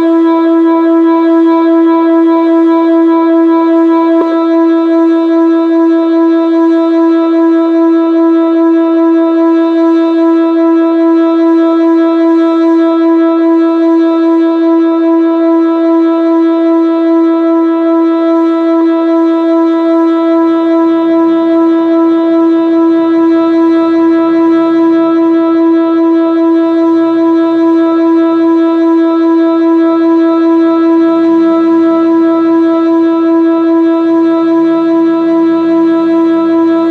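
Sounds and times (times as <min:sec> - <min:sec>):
siren steady tone: 0:00.0 - 0:36.9.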